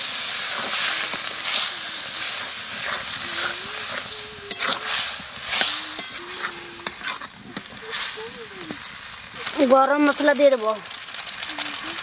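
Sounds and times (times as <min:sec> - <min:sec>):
curry hissing and sizzling: 0:00.0 - 0:12.0.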